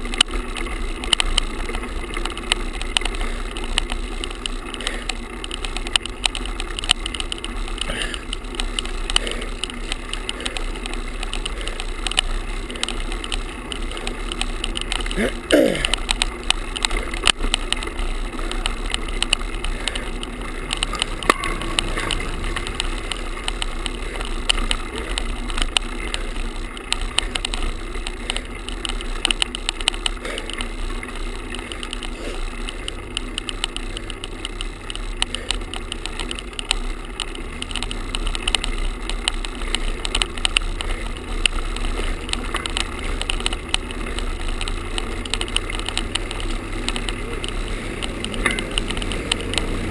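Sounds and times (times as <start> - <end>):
fine clicks: 0.0 - 49.9
camera rattling against mount: 0.1 - 49.9.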